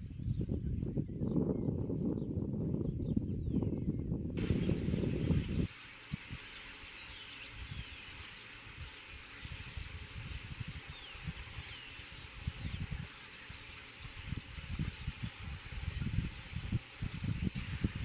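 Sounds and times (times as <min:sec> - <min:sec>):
starlings whistling and chirping: 0:02.9 - 0:18.0.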